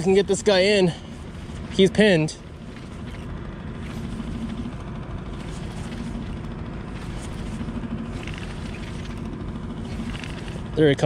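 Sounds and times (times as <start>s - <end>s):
faint hum: 0.0s - 11.0s
fishing reel being cranked: 0.0s - 11.0s.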